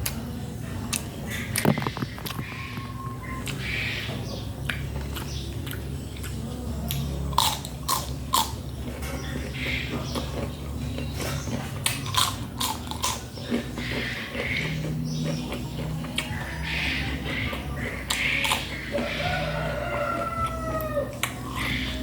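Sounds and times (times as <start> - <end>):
chewing crunchy vegetables: 0.0 - 22.0
steady low hum: 0.0 - 22.0.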